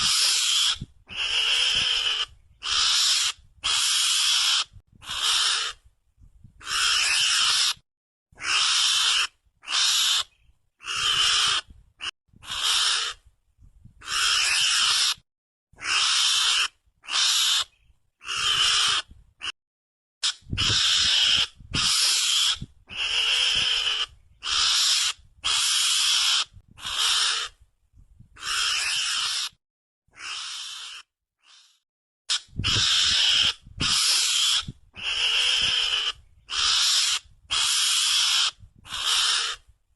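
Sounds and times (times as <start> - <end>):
mongoose squeals: 0.0 - 5.8, 6.6 - 7.8, 8.4 - 11.7, 12.4 - 13.2, 14.0 - 15.2, 15.8 - 19.1, 20.2 - 27.6, 28.4 - 29.6, 30.2 - 31.7, 32.3 - 39.6.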